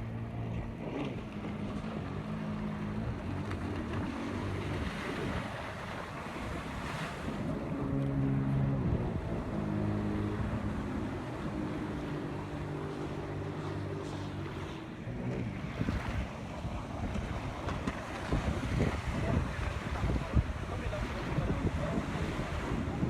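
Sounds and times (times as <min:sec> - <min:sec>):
jet ski engine running: 0:00.0 - 0:23.0
wind buffeting microphone: 0:00.5 - 0:23.0.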